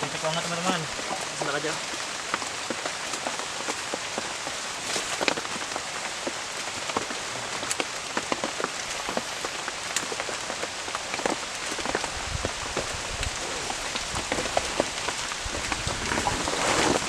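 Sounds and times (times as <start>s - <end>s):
raindrops ticking close by: 0.0s - 17.0s
steady rain: 0.0s - 17.0s.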